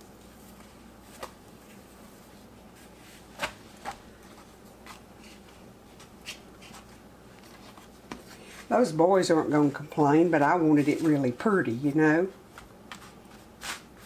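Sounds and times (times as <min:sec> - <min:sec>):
dough rustling: 0:00.0 - 0:14.0.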